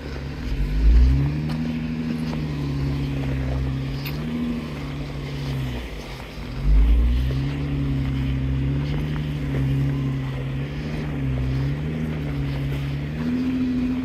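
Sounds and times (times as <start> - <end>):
engine running under light throttle: 0.0 - 14.0.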